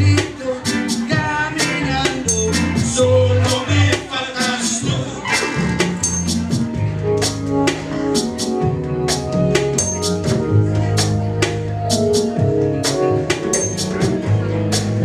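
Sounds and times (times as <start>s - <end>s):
bass guitar line: 0.0s - 15.0s
keyboard: 0.0s - 15.0s.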